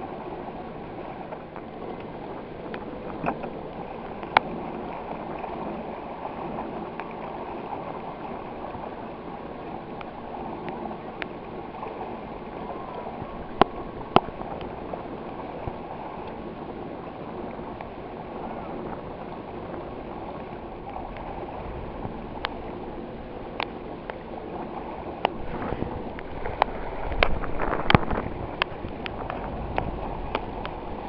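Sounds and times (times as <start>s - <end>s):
water lapping against hull: 0.0s - 31.0s.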